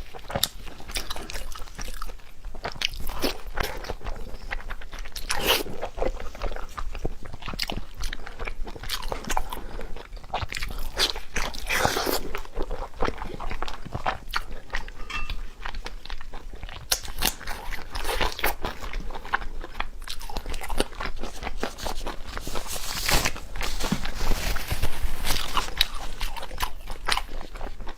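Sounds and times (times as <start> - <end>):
person chewing crunchy food: 0.0 - 27.9.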